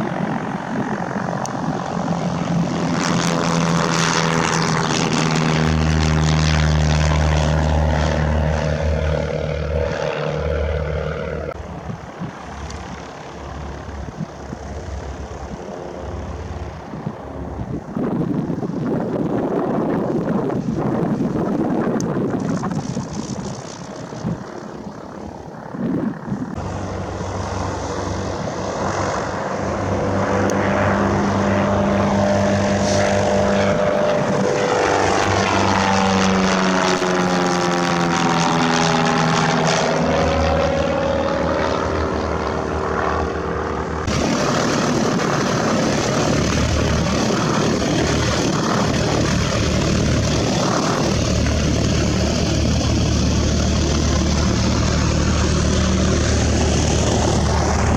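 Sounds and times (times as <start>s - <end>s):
propeller airplane engine droning: 0.0s - 57.9s.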